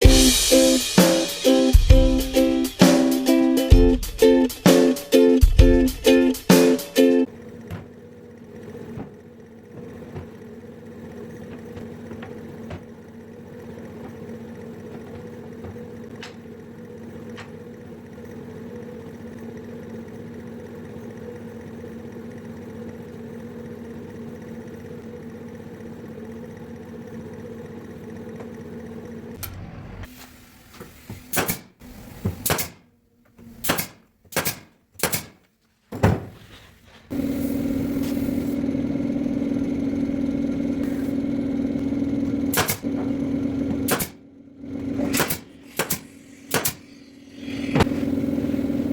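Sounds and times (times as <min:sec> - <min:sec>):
electric motor humming: 0:00.0 - 0:30.1, 0:37.1 - 0:48.9.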